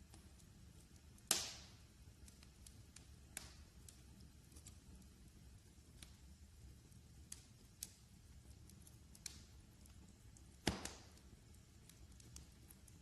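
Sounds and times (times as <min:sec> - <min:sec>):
fire popping: 0:00.0 - 0:13.0
low rumble of flames: 0:00.0 - 0:13.0
wood fire crackling: 0:00.0 - 0:13.0.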